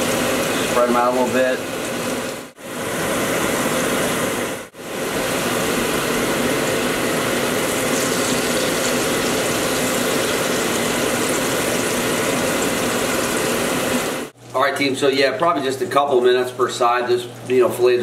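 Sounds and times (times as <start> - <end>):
fish deep-frying in hot oil: 0.0 - 2.7, 4.9 - 18.0.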